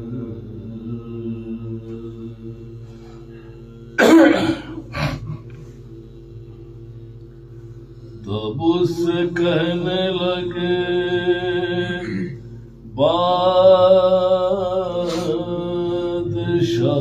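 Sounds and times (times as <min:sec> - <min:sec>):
person chanting: 0:00.0 - 0:07.0, 0:08.2 - 0:17.0
steady low hum: 0:00.0 - 0:17.0.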